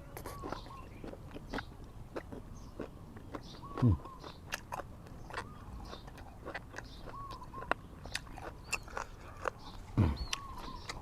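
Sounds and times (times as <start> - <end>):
wet chewing and smacks: 0.0 - 11.0.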